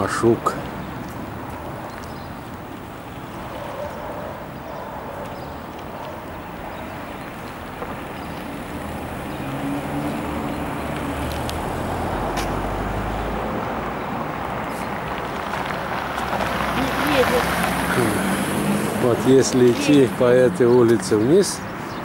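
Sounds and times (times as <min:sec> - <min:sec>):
traffic hiss and rumble: 0:00.0 - 0:22.0
vehicle engine hum: 0:00.0 - 0:22.0.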